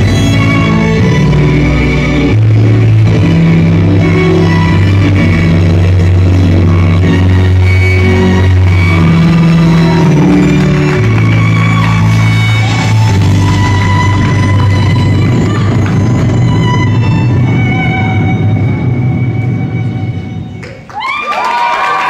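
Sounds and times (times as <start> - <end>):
loud music with held bass notes: 0.0 - 20.4.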